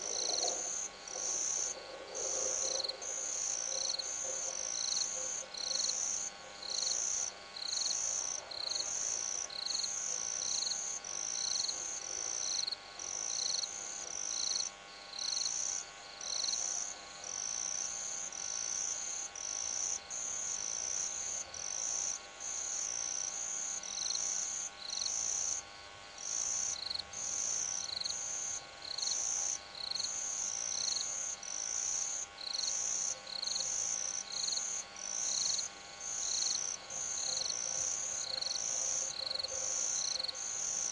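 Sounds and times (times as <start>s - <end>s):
faint steady hum: 0.0s - 40.9s
insects chirping: 0.0s - 40.9s.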